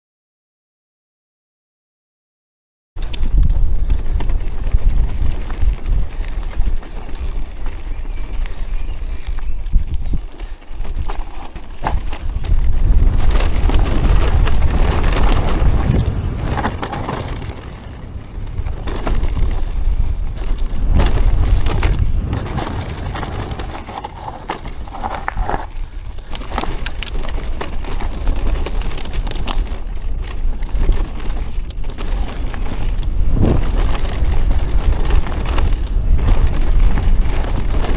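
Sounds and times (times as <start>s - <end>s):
bicycle rattling over dirt trail: 3.0s - 37.9s
wind rumble on microphone: 3.0s - 37.9s.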